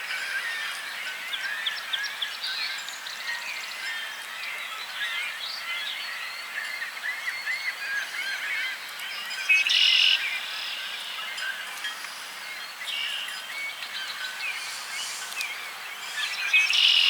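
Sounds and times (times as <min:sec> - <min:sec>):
dense chorus of bird chirps: 0:00.1 - 0:17.0.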